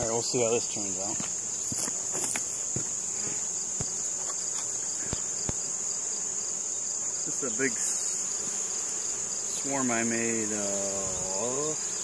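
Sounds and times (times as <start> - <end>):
high-pitched insect drone: 0.0 - 12.0
honey bees buzzing: 0.0 - 12.0.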